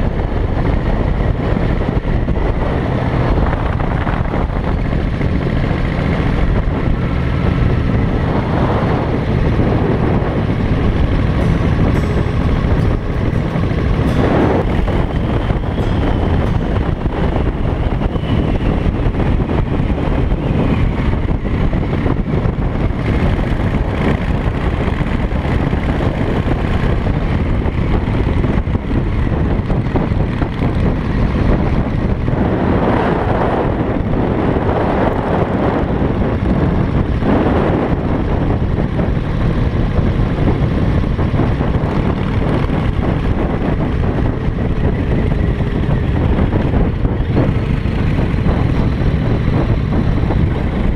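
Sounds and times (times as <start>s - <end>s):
motorcycle engine at speed: 0.0s - 50.9s
wind rush on microphone: 0.0s - 50.9s.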